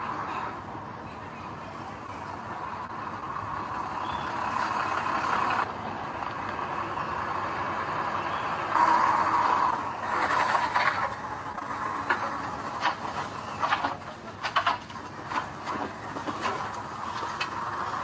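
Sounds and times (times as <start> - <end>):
construction machinery engine running: 0.0 - 18.0.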